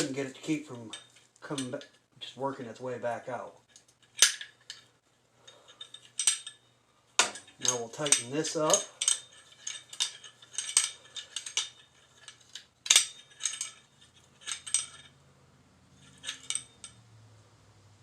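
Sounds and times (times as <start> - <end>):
hand tools clinking on metal: 0.0 - 2.0, 3.6 - 15.2, 16.0 - 17.0.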